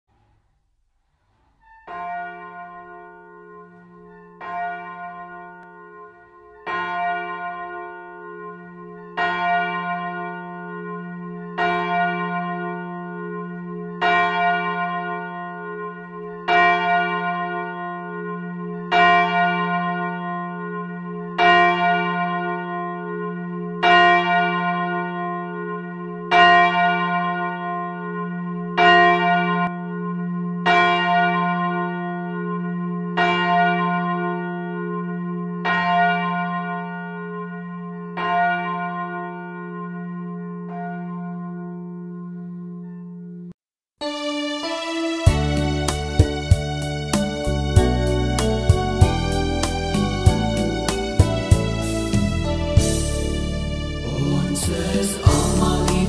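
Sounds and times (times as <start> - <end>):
church bell tolling: 1.6 - 56.0.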